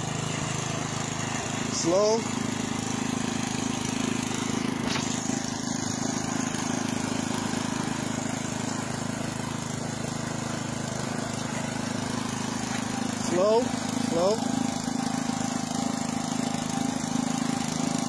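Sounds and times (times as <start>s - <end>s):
garden tiller engine idling: 0.0s - 18.0s.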